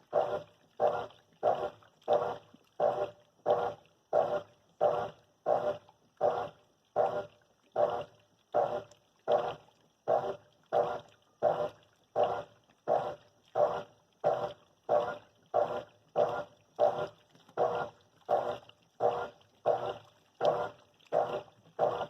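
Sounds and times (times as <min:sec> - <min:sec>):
washing machine agitating: 0:00.0 - 0:22.0.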